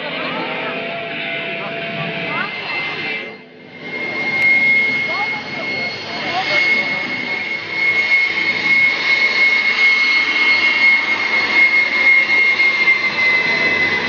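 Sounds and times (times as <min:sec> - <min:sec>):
jet engine roaring and whining: 0:00.0 - 0:14.0.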